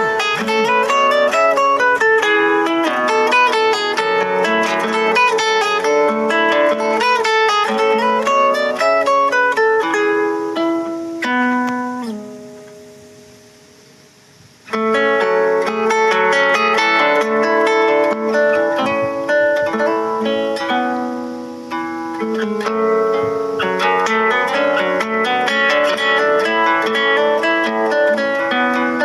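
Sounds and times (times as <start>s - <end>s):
plucked string instrument melody: 0.0s - 29.0s.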